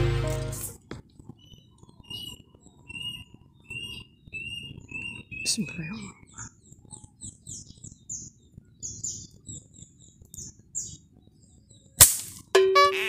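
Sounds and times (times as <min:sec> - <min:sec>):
small birds chirping: 0:01.0 - 0:12.0.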